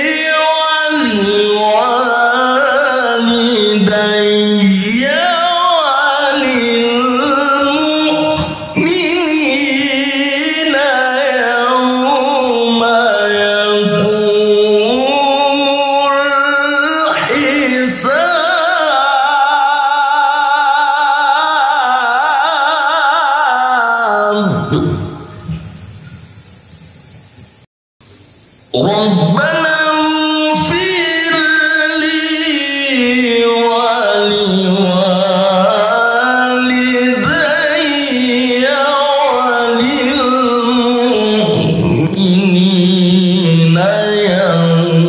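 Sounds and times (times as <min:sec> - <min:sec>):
man reciting melodically: 0:00.0 - 0:25.6, 0:28.7 - 0:45.0.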